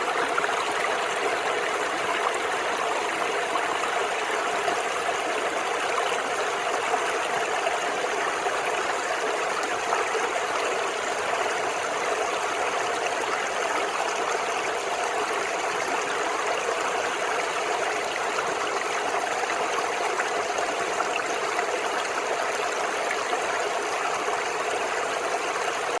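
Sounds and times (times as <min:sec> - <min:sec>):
brook babbling over stones: 0:00.0 - 0:26.0.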